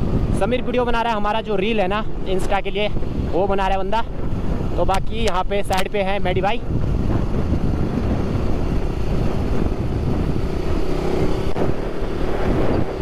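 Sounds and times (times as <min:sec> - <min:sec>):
motorcycle engine hum: 0:00.0 - 0:13.0
wind rush over microphone: 0:00.0 - 0:13.0.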